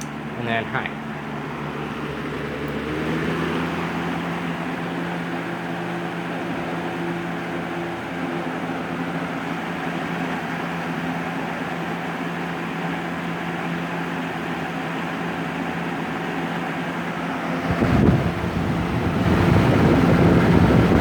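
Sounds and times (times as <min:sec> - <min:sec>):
box fan motor hum: 0:00.0 - 0:21.0
rush of air from fan: 0:00.1 - 0:21.0.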